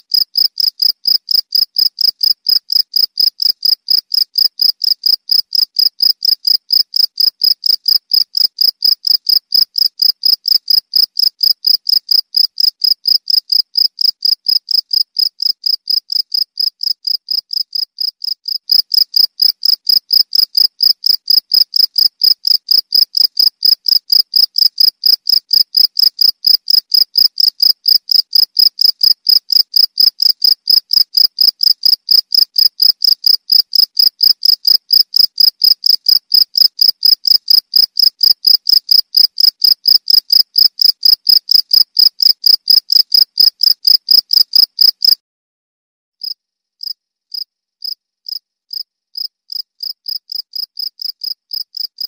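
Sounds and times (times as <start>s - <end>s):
cricket chirping: 0.1s - 45.2s.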